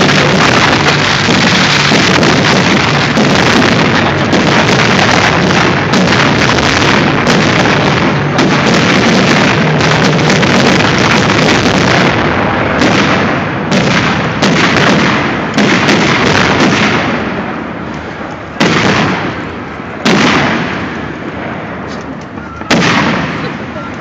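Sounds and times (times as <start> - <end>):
firework shells bursting: 0.0 - 24.0.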